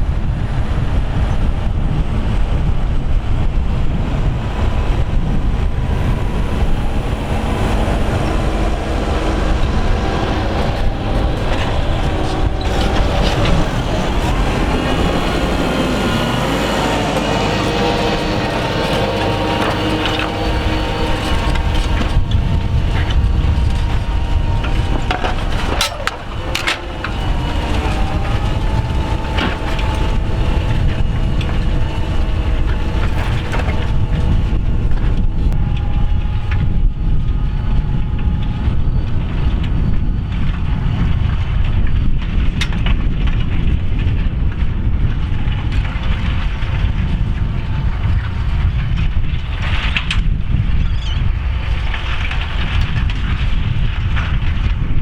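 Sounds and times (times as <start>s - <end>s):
tractor engine working hard: 0.0s - 55.0s.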